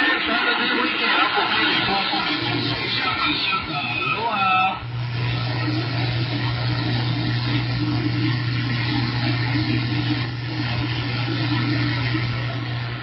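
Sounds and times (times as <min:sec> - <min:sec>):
radio static hiss: 0:00.0 - 0:13.0
low hum: 0:01.9 - 0:13.0.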